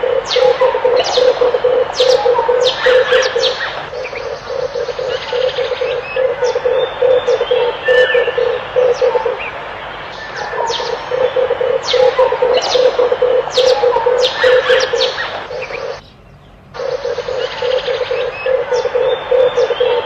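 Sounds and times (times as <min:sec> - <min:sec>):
dove cooing: 0:00.0 - 0:16.0, 0:16.8 - 0:20.0
small birds chirping: 0:00.0 - 0:20.0.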